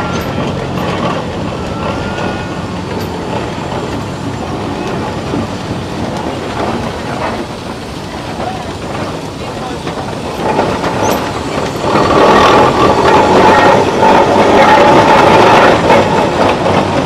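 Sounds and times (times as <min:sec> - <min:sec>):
steam traction engine running: 0:00.0 - 0:17.0.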